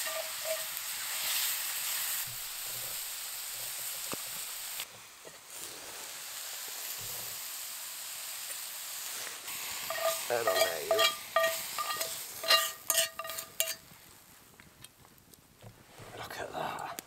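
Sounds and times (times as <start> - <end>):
mushrooms sizzling in a pan: 0.0 - 14.6.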